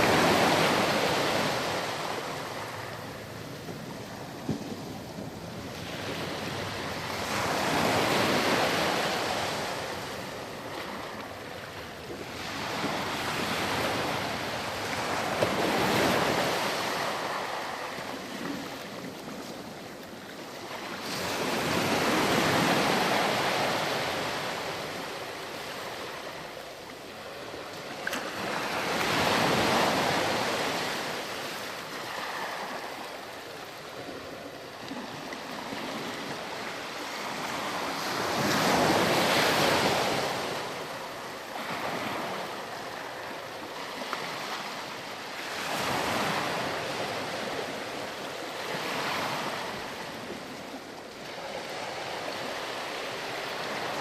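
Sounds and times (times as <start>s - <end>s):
sea waves breaking on beach: 0.0s - 54.0s.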